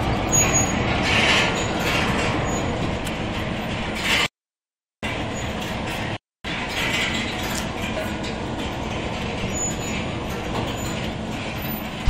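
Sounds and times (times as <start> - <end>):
chain conveyor rumble and rattle: 0.0 - 4.3, 5.0 - 12.0.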